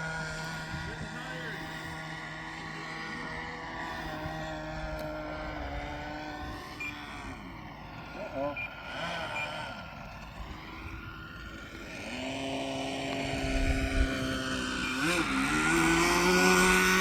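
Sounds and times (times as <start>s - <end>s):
model plane motor droning: 0.0s - 17.0s.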